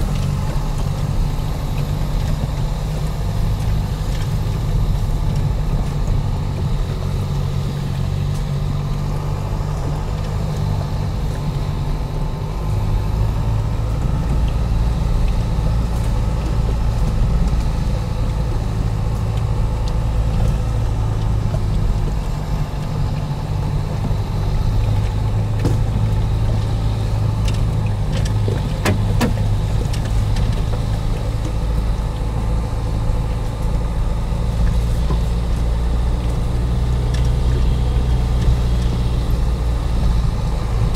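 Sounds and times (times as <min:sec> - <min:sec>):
car engine and road rumble: 0:00.0 - 0:40.9
knocks and rattles over ruts: 0:00.0 - 0:40.9.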